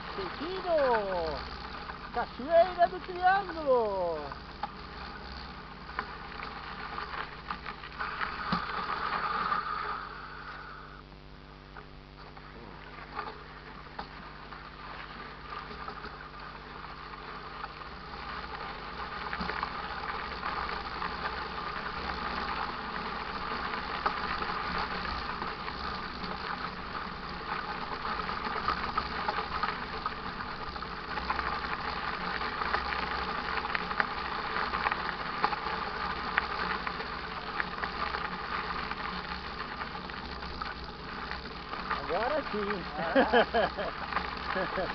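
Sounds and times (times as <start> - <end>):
bike rattling and clicking: 0.0 - 10.1, 11.8 - 44.9
bike tyres rushing on dirt: 0.0 - 11.0, 12.3 - 44.9.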